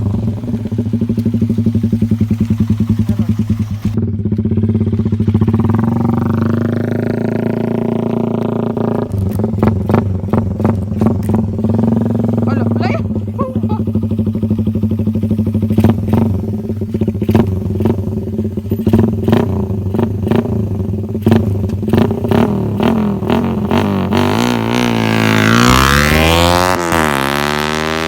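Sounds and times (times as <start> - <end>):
exhaust cracks: 0.0 - 28.0
motorcycle engine running: 0.0 - 28.0.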